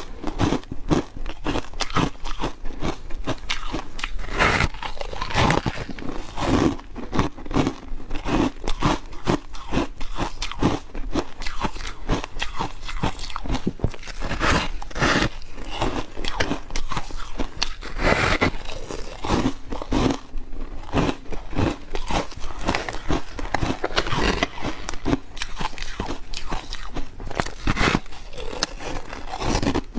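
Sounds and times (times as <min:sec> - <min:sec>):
crunchy ice chewing: 0:00.0 - 0:29.9.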